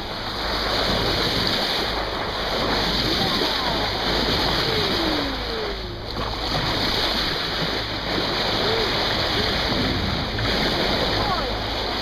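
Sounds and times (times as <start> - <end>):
water splashing along boat bow: 0.0 - 12.0
faint gliding tones: 1.8 - 12.0.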